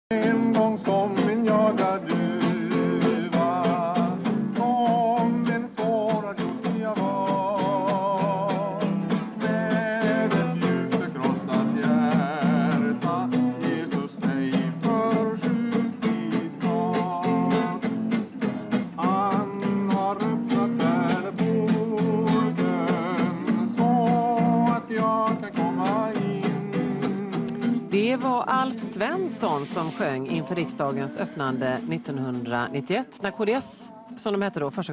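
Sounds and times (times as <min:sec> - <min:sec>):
man singing a hymn: 0:00.1 - 0:34.2
strummed guitar: 0:00.1 - 0:34.9.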